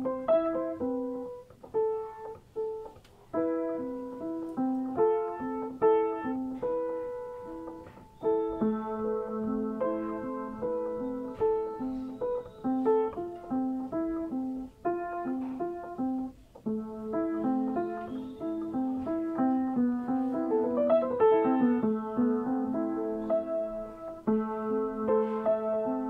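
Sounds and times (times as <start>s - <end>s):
upright piano melody: 0.0s - 26.0s.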